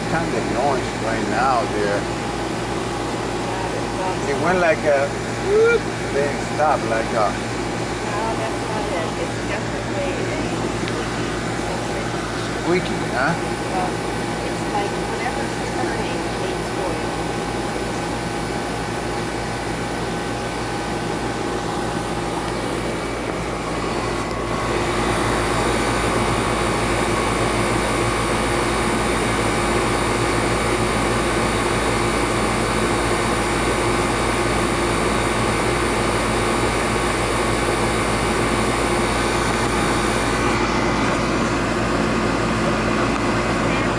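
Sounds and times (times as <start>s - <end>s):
heating equipment humming: 0.0s - 43.9s.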